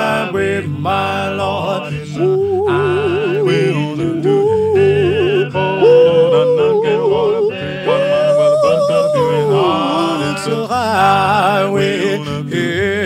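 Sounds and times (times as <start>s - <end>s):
harmony voices singing: 0.0s - 13.0s
lead voice singing long notes: 0.0s - 13.0s
musical accompaniment: 0.0s - 13.0s.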